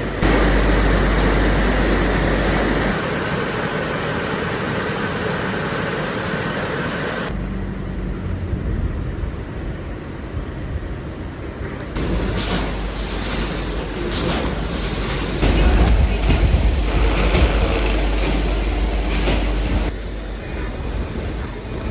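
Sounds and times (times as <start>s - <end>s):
factory machinery noise: 0.0s - 21.9s.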